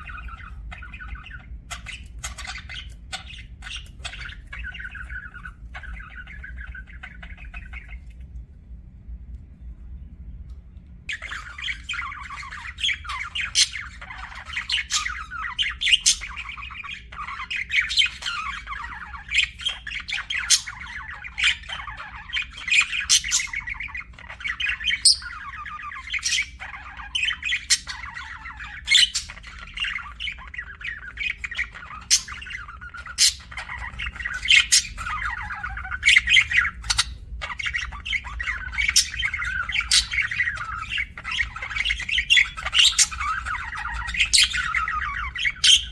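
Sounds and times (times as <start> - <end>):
sharp high bird chirps and squawks: 0.0 - 8.2, 11.1 - 45.9
budgerigars chattering and warbling: 0.0 - 8.4, 11.1 - 45.9.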